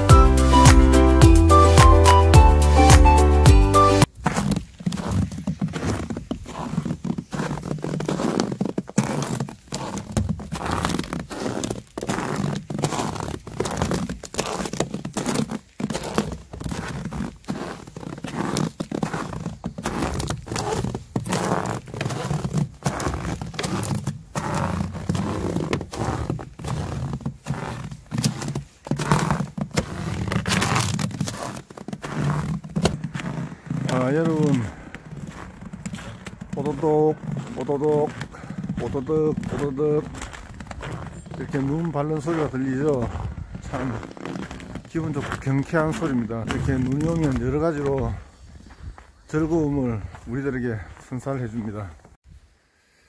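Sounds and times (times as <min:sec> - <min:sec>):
footsteps crunching through snow: 0:03.8 - 0:52.4.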